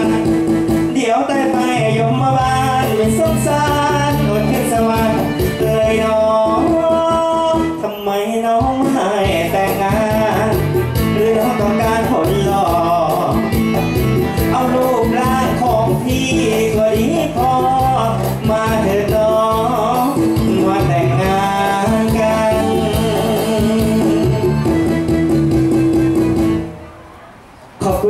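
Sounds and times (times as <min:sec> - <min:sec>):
man singing: 0:00.0 - 0:25.0
live band music over loudspeakers: 0:00.0 - 0:28.0.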